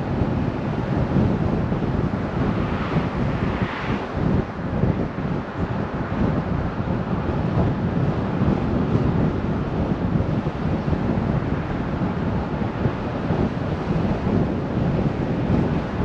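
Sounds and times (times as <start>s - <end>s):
car driving on paved road: 0.0s - 16.0s
wind buffeting microphone: 0.0s - 16.0s.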